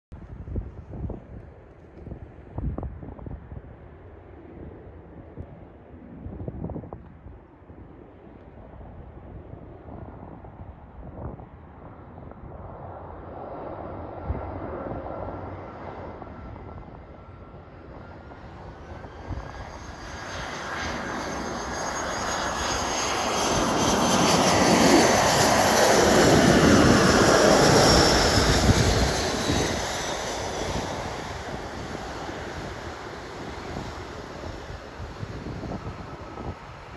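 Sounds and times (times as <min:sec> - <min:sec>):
jet engines rushing and whining: 0:00.4 - 0:36.9.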